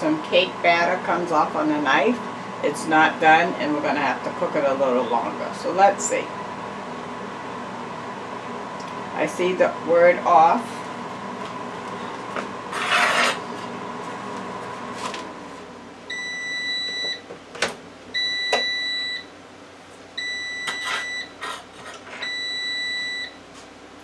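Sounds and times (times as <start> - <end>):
air fryer long beeps: 0.0 - 14.7, 16.0 - 17.3, 18.1 - 19.4, 20.2 - 21.4, 22.2 - 23.5
appliance steady hum: 0.0 - 24.0.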